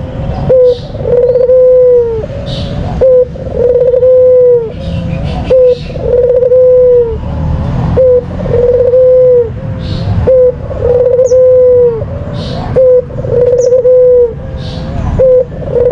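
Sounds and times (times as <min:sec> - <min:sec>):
dove cooing: 0:00.1 - 0:07.2, 0:08.0 - 0:15.9.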